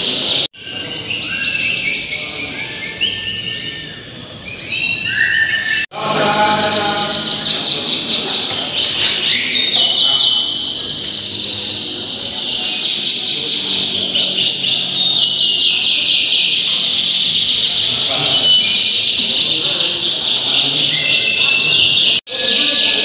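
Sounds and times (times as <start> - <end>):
canaries singing trills: 0.0 - 23.0.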